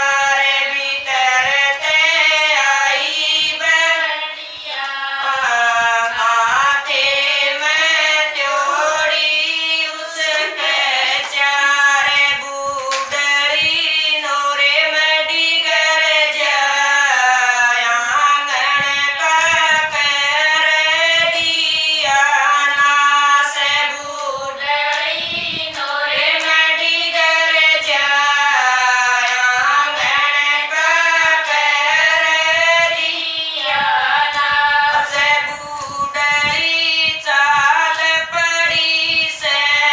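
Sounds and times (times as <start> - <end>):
women singing together: 0.0 - 39.9.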